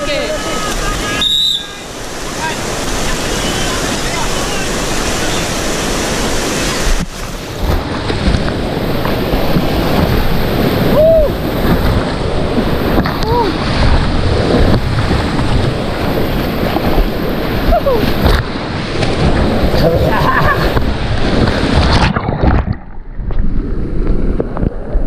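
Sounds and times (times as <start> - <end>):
river rapid rushing: 0.0 - 22.6
wind buffeting microphone: 2.0 - 25.0.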